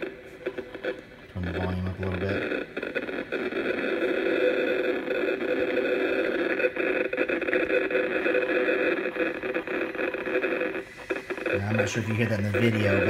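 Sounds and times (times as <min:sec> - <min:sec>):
crackling buzz from meter speaker: 0:00.0 - 0:13.0.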